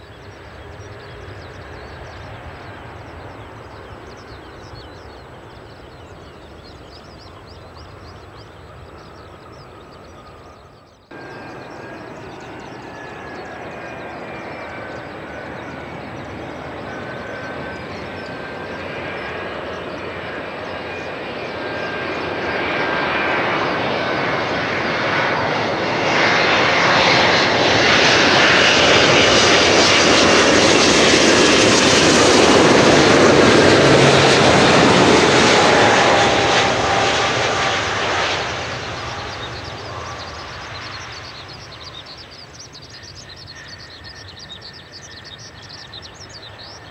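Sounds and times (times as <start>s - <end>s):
jet airliner whine and rumble: 0.0s - 46.9s.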